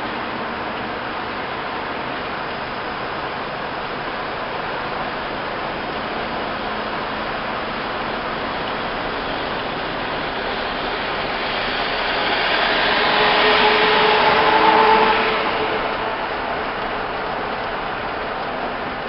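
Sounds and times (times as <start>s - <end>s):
traffic noise from inside a cab: 0.0s - 19.0s.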